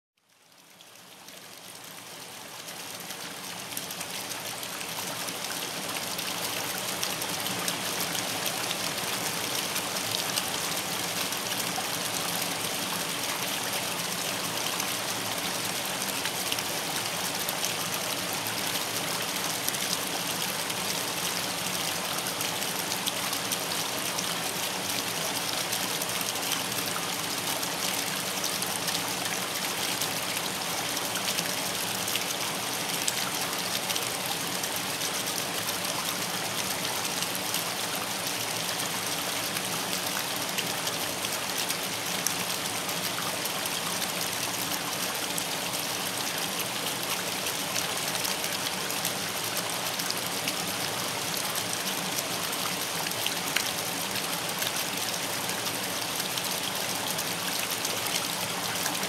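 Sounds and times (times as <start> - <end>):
river flowing: 0.4 - 59.0.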